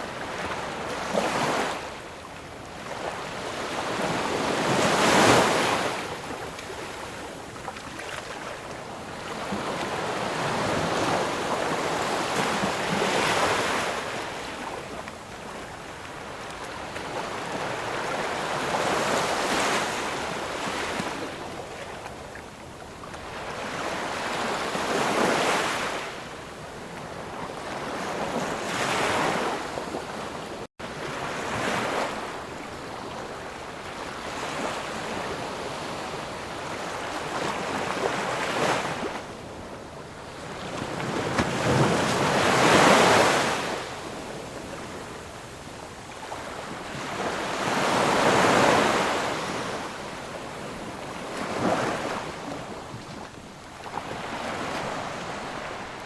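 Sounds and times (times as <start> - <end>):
waves breaking on the shore: 0.0 - 56.0.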